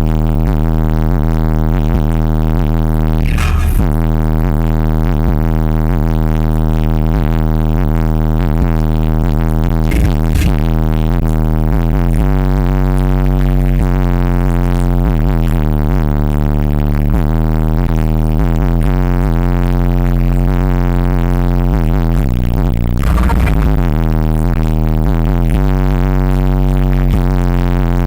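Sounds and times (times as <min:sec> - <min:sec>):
car subwoofers playing bass-heavy music: 0:00.0 - 0:28.0.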